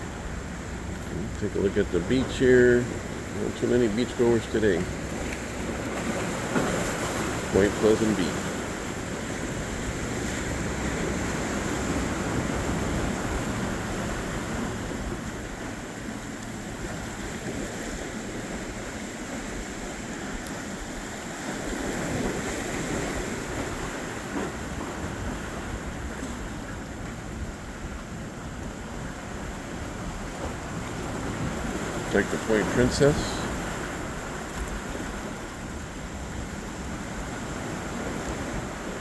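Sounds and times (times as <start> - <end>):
ocean surf washing onto beach: 0.0 - 39.0.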